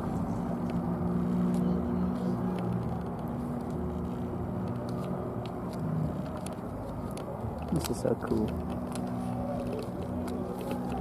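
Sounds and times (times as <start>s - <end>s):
engine drone: 0.0s - 11.0s
low background murmur: 0.0s - 11.0s.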